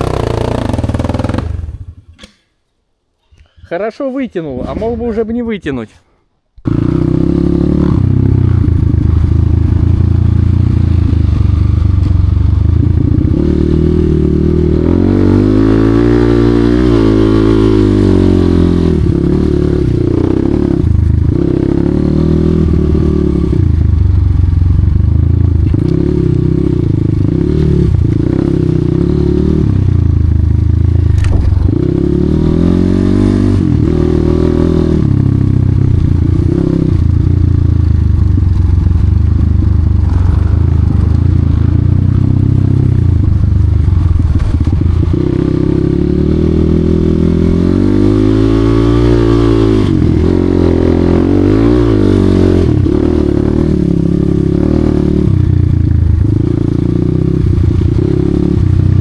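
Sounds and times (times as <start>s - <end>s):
dirt bike engine revving: 0.0s - 2.3s, 6.6s - 24.1s, 25.5s - 55.6s.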